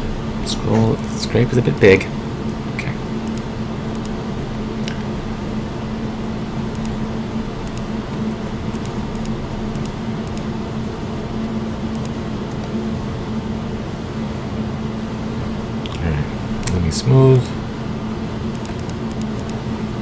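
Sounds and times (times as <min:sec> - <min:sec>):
steady machine hum with hiss: 0:00.0 - 0:20.0.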